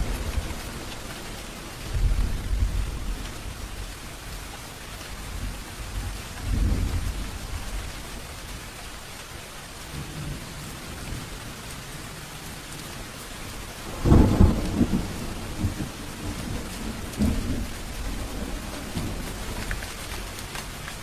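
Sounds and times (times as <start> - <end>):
distant thunder rumbling: 0.0 - 8.8, 9.8 - 21.0
steady rain: 0.0 - 21.0.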